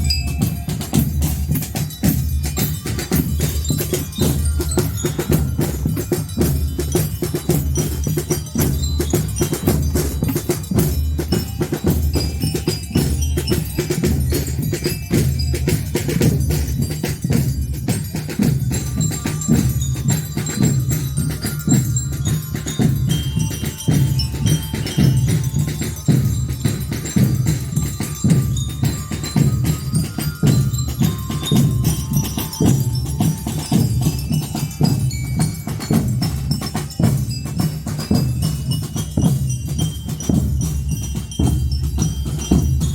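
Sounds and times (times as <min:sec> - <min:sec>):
bell lyres ringing melody: 0:00.0 - 0:42.9
drums and percussion beat: 0:00.0 - 0:42.9
marching band playing: 0:00.0 - 0:42.9.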